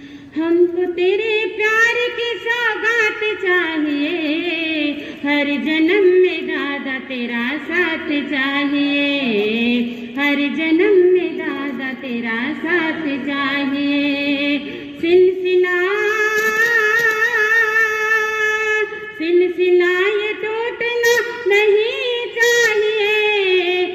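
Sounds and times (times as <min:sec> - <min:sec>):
woman singing devotional melody: 0:00.0 - 0:23.9.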